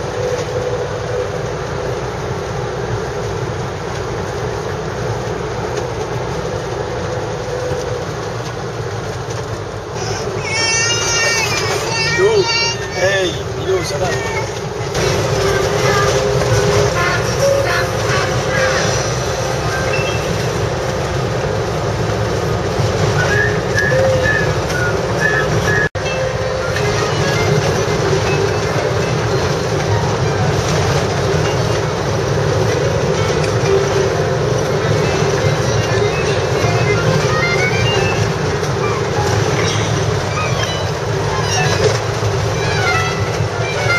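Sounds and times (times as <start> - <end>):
truck engine and tyre noise: 0.0 - 43.9
rattling in cab: 8.2 - 43.9.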